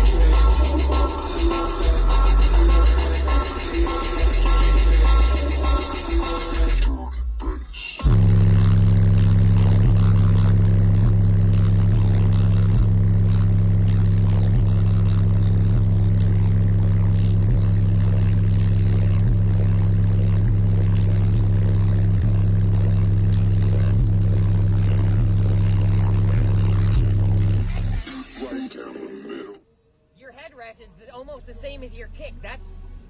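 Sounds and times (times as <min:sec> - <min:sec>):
subwoofer deep bass drone: 0:00.0 - 0:28.2.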